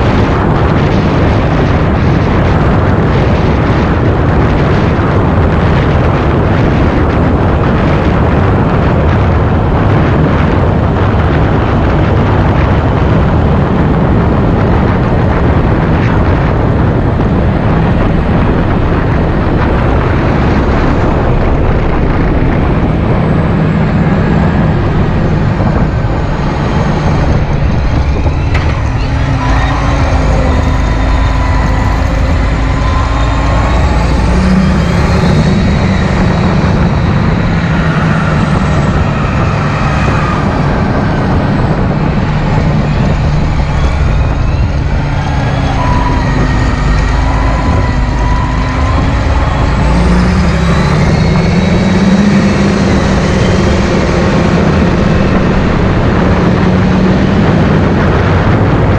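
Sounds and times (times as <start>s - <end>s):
tractor diesel engine running: 0.0s - 58.9s
wind noise on microphone: 0.0s - 58.9s.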